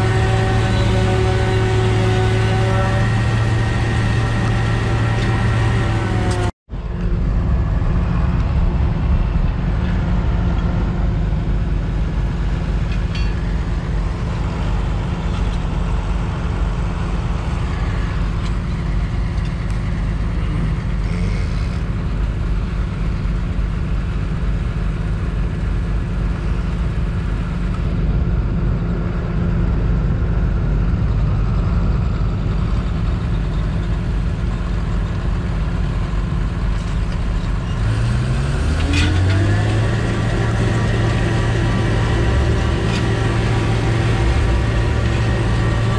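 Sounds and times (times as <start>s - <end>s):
farm machinery engine running: 0.0s - 45.9s
steady whine: 0.0s - 45.9s.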